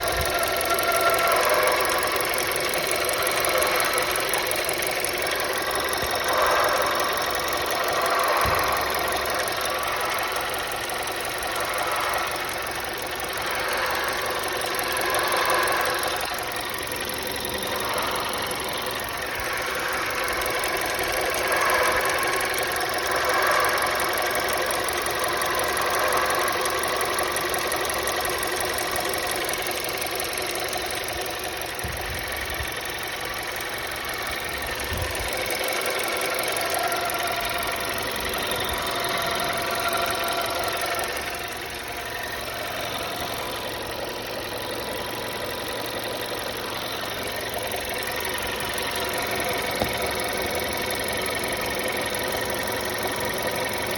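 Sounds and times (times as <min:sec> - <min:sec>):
car engine running: 0:00.0 - 0:53.9
strange engine noise: 0:00.0 - 0:53.9.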